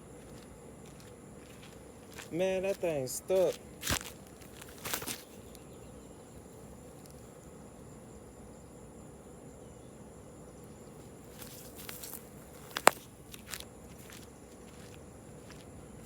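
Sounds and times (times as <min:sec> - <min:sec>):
crickets droning: 0:00.0 - 0:16.0.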